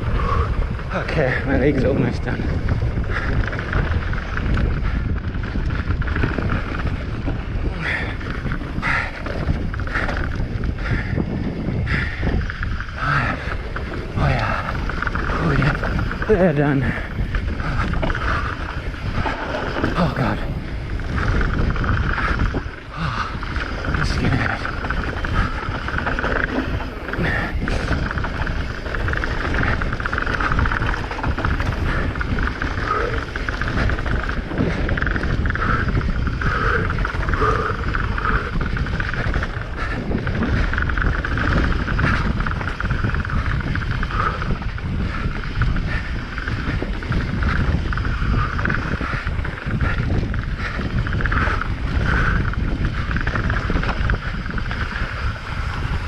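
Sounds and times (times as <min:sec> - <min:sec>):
rush of wind and tyre noise: 0:00.0 - 0:56.0.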